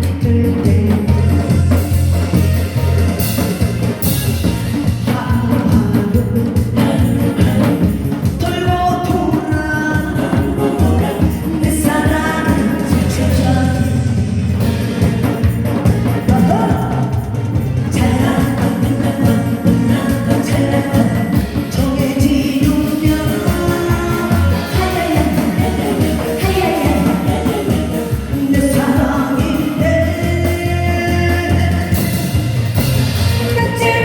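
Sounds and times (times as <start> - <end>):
person singing: 0.0 - 3.4, 4.7 - 32.6, 33.4 - 34.0
heavy bass beat: 0.0 - 34.0.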